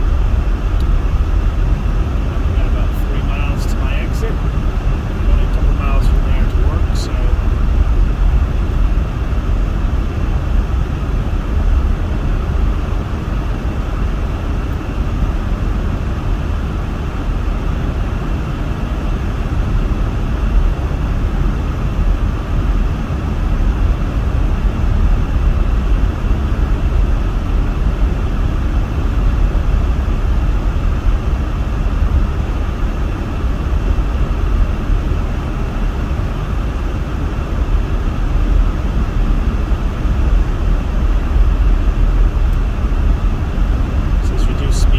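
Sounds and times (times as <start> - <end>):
engine and tyre rumble: 0.0 - 44.9
heater fan blowing: 0.0 - 44.9.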